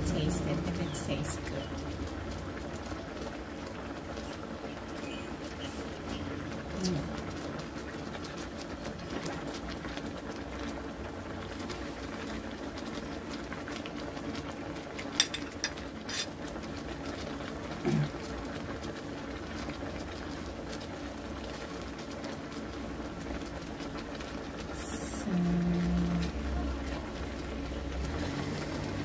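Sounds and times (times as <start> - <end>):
sauce bubbling: 0.0 - 29.0.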